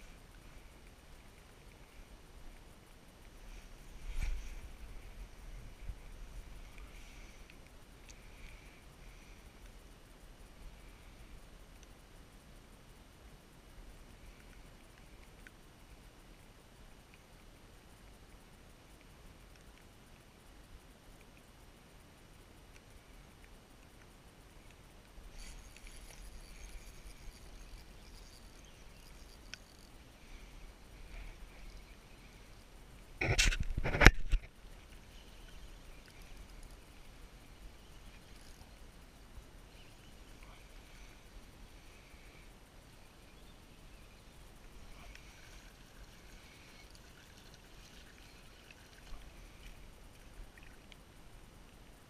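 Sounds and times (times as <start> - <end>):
fishing reel ticking whir: 0.0 - 52.0.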